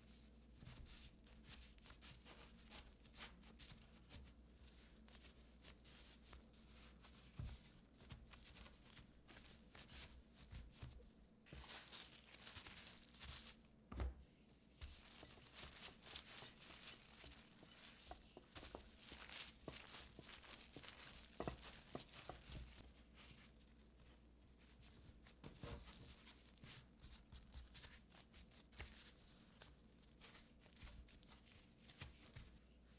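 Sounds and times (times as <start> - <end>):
rustling and scraping: 0.1 - 32.9.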